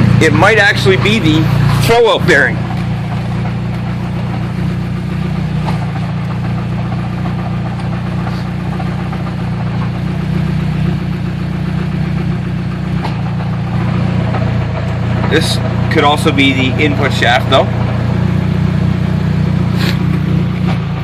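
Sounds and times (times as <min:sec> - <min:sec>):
car engine idling: 0:00.0 - 0:21.0
drivetrain clanking: 0:00.0 - 0:21.0.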